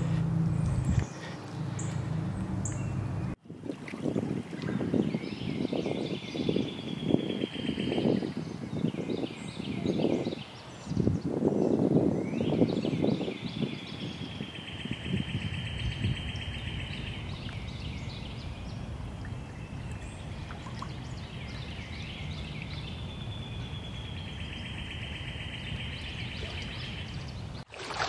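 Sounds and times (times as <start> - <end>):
bird chirps: 0.0 - 3.4, 4.9 - 27.6.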